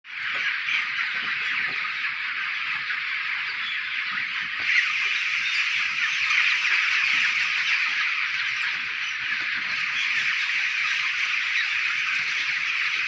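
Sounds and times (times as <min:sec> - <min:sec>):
chicks peeping in chorus: 0:00.1 - 0:13.0.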